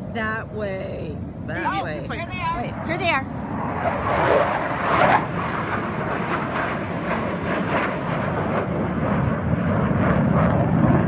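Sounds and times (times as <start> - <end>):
airplanes flying past: 0.0 - 11.0.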